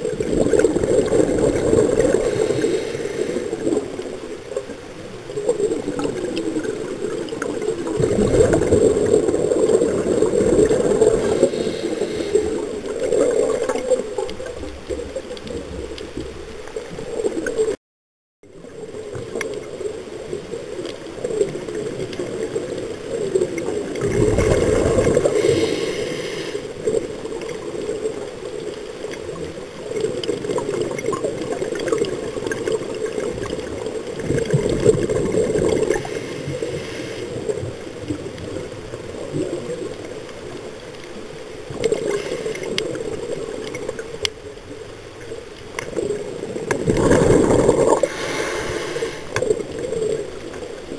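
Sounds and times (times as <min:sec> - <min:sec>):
regulator bubbles gurgling underwater: 0:00.0 - 0:17.8, 0:18.5 - 0:50.9.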